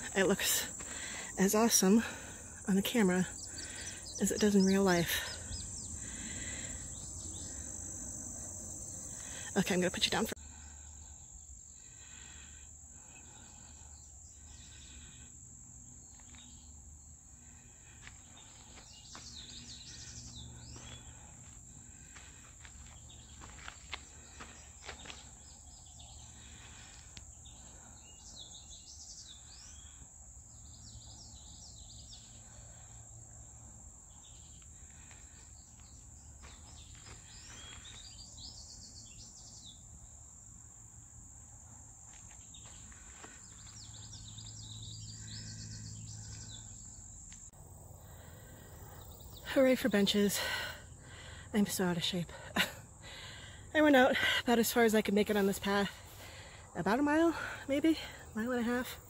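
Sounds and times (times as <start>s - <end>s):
birds chirping: 0.0s - 10.4s, 16.0s - 33.0s, 34.0s - 39.9s, 42.2s - 59.0s
insects trilling: 0.0s - 59.0s.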